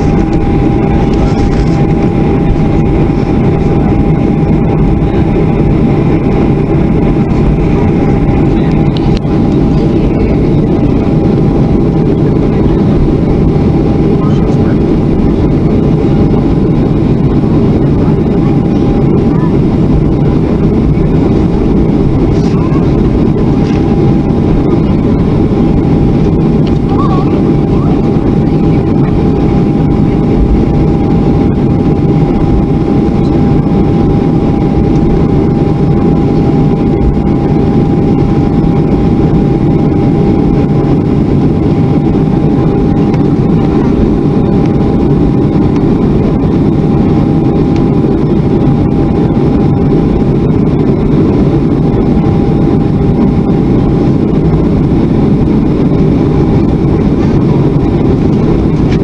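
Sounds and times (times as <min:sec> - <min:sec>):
jet engine cabin rumble: 0:00.0 - 0:59.0
steady engine whine: 0:00.0 - 0:59.0.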